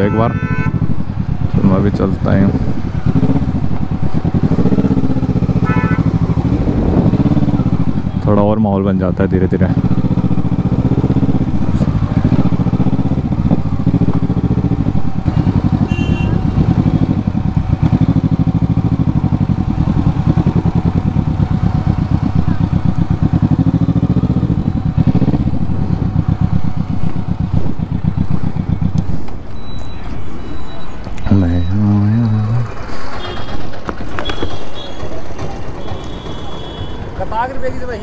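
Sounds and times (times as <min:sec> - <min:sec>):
motorcycle engine running: 0:00.0 - 0:29.5, 0:31.3 - 0:37.0.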